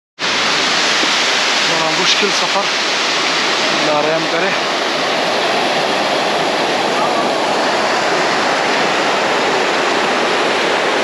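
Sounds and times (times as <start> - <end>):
waterfall rushing over boulders: 0.2 - 11.0.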